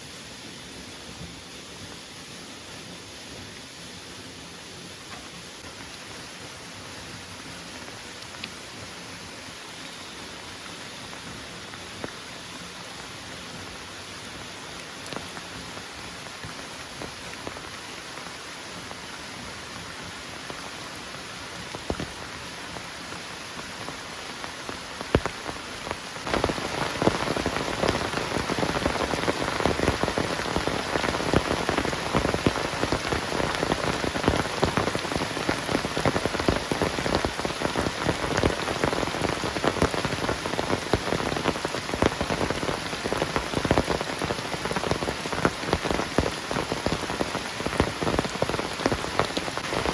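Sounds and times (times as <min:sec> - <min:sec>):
heavy rain falling: 0:00.0 - 0:49.9
raindrops pattering on a surface: 0:04.6 - 0:49.9.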